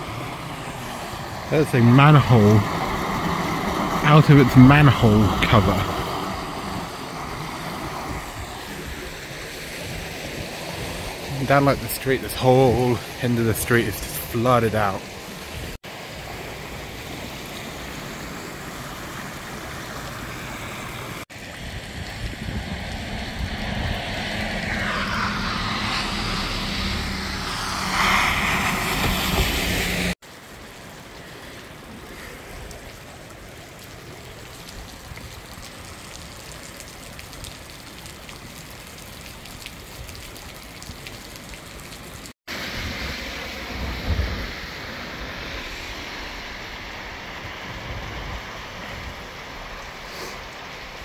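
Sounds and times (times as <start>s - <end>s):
rain and floodwater rushing: 0.0s - 51.0s.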